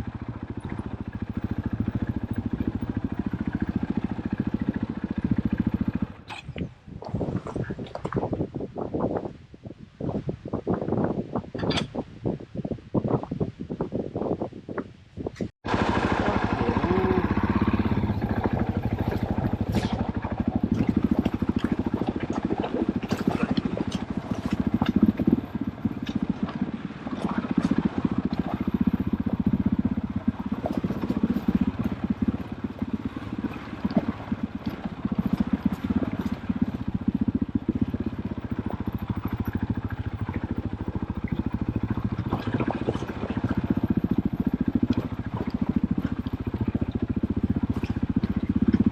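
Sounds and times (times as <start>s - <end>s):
motorcycle engine running: 0.0s - 9.3s, 15.6s - 48.9s
clicks and knocks from riding: 0.6s - 9.3s, 10.0s - 12.4s, 17.4s - 48.9s.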